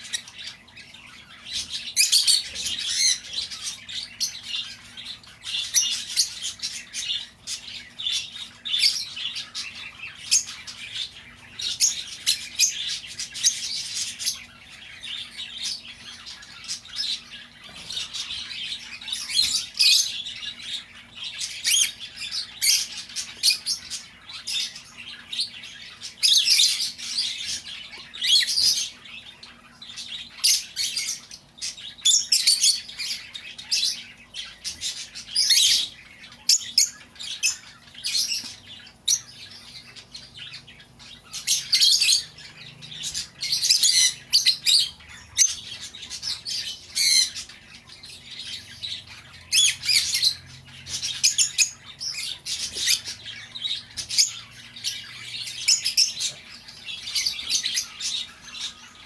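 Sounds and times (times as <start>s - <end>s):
lovebirds squawking chatter: 0.0s - 59.0s.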